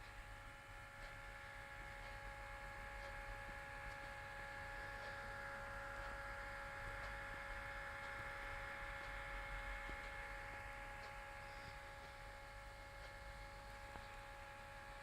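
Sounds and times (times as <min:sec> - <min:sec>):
laptop high-pitched whine: 0:00.0 - 0:15.0
laptop low hum: 0:00.0 - 0:15.0.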